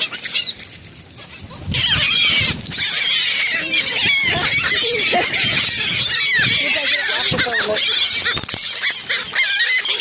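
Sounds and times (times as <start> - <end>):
gulls calling: 0.0 - 10.0.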